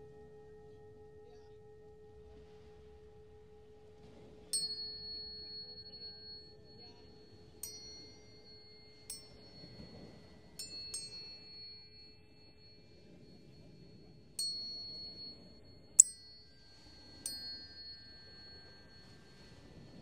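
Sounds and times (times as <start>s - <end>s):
low steady tone: 0.0s - 20.0s
tuning forks ringing: 0.0s - 20.0s.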